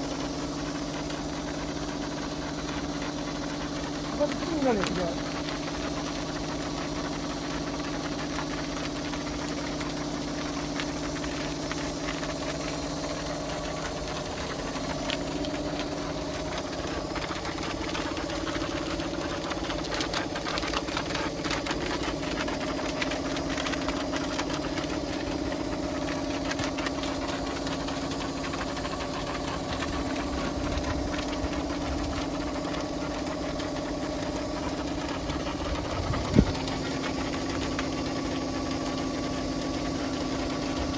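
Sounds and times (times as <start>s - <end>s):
pressure washer running: 0.0s - 40.9s
water spray ticks and spatters: 0.0s - 40.9s.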